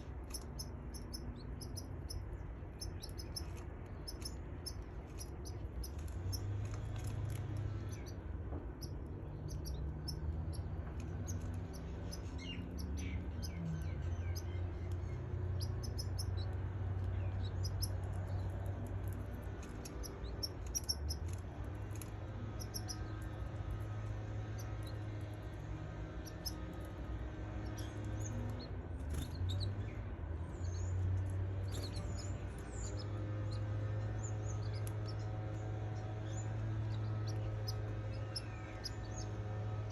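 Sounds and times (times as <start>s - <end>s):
baby canaries chirping: 0.0s - 39.9s.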